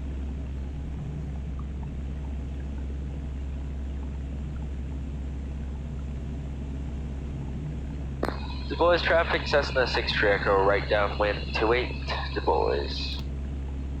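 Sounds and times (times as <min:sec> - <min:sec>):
aircraft engine and propeller drone: 0:00.0 - 0:14.0.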